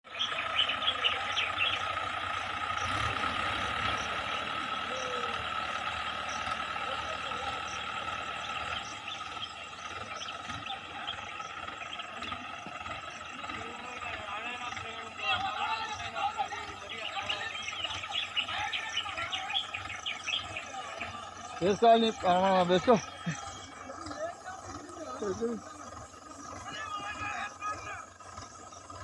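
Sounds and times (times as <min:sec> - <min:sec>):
tractor diesel engines running: 0:00.0 - 0:29.0.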